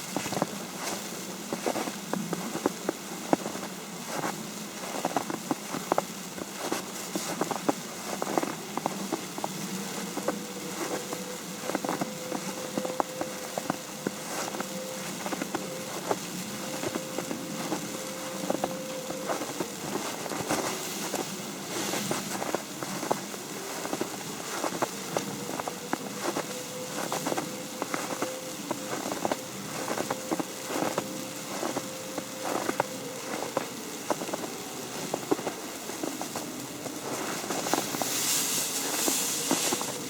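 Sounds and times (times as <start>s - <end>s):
snow tapping on umbrella: 0.0s - 40.0s.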